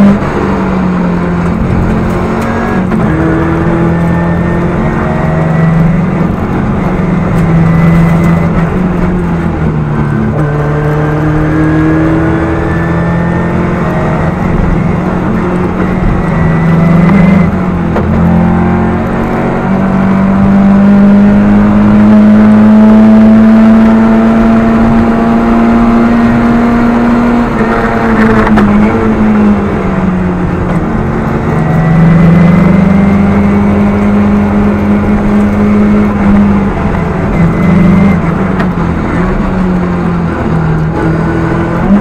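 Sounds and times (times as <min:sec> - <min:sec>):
rally car engine at high revs: 0:00.0 - 0:42.0.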